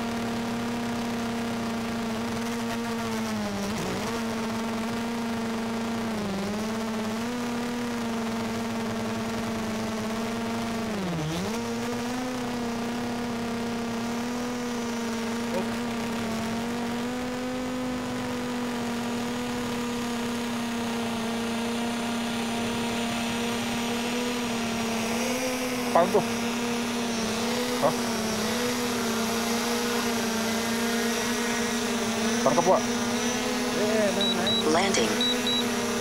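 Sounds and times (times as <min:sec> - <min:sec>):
drone propellers buzzing: 0:00.0 - 0:36.0.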